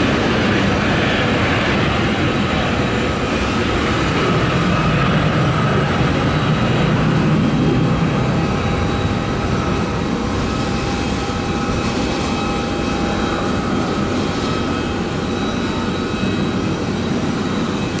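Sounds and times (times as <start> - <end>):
high jet engine whine: 0.0 - 18.0
jet engine roar: 0.0 - 18.0.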